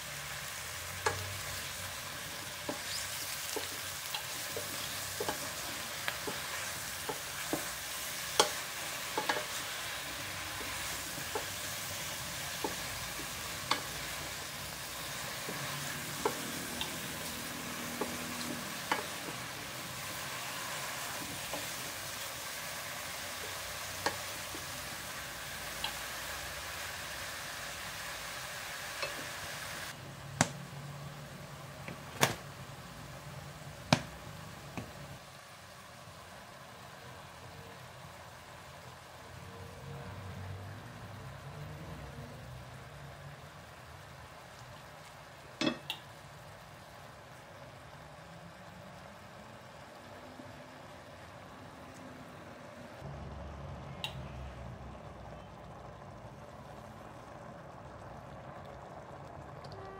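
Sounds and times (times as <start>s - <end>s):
mushrooms sizzling in a pot: 0.0s - 59.9s.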